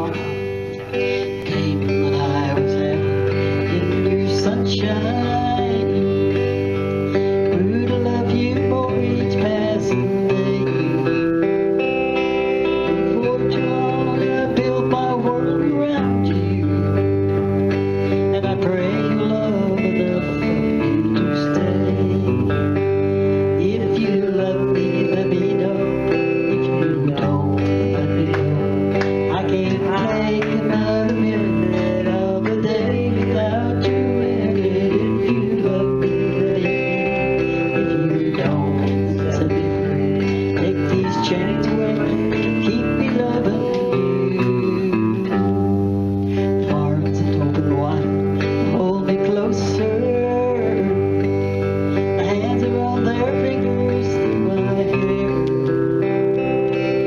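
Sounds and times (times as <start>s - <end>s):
electric guitar playing: 0.0s - 57.0s
held bass notes and chords: 0.0s - 57.0s.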